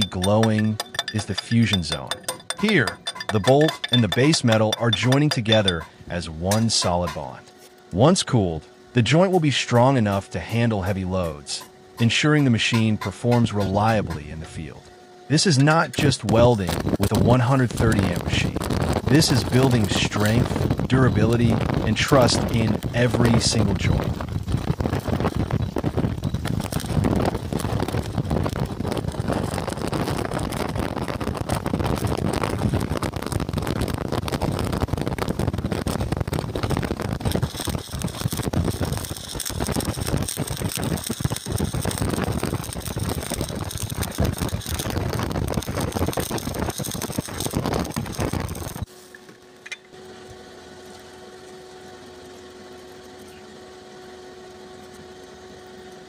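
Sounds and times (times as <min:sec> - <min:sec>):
welding arc crackling and sizzling: 0:00.0 - 0:08.4, 0:09.0 - 0:56.0
steady hum: 0:00.0 - 0:56.0.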